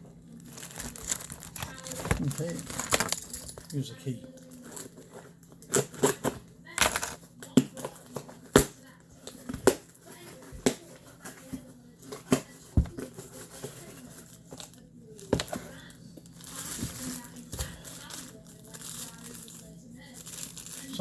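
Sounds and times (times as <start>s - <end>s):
plastic and cardboard rustling: 0.3s - 21.0s.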